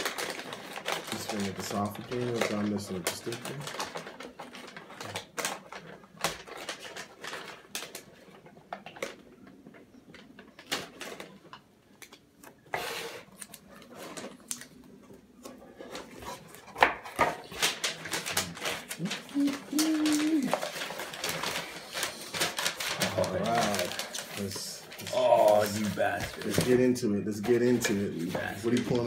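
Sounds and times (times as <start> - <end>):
wrapping paper crinkling: 0.0 - 29.0.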